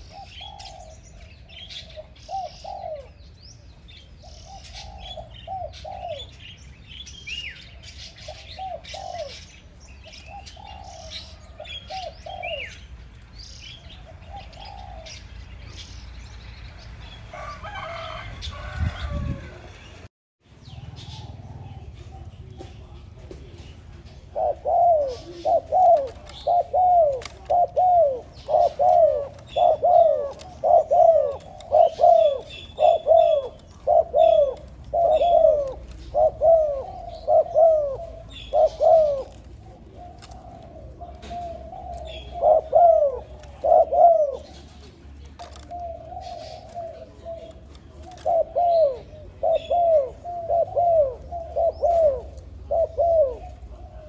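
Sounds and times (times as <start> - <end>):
dove cooing: 0.0 - 15.8, 20.6 - 54.0
small birds chirping: 0.0 - 54.0.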